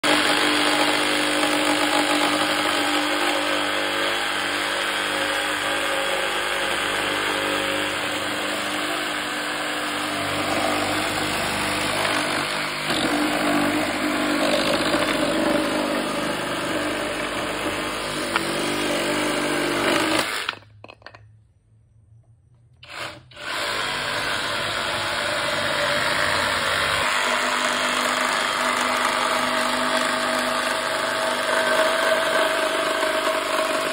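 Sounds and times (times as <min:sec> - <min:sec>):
reciprocating saw cutting boards: 0:00.0 - 0:20.8, 0:22.8 - 0:33.9.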